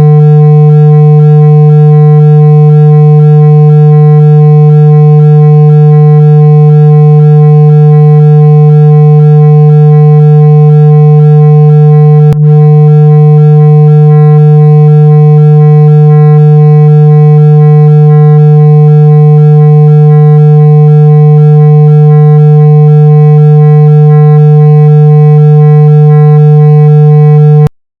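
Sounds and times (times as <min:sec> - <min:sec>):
continuous low tone: 0:00.0 - 0:27.7.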